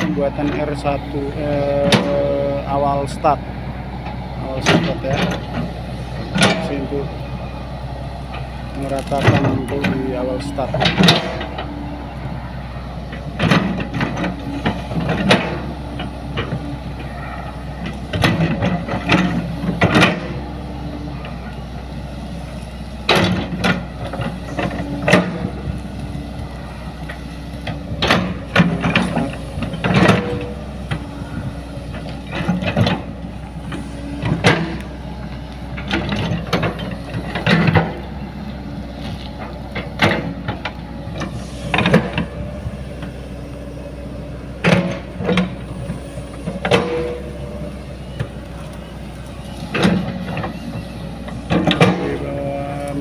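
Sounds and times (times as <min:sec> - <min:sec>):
excavator bucket clanking: 0:00.0 - 0:03.4, 0:04.0 - 0:07.2, 0:08.3 - 0:11.9, 0:13.1 - 0:21.8, 0:22.9 - 0:53.0
diesel engine humming: 0:00.0 - 0:53.0.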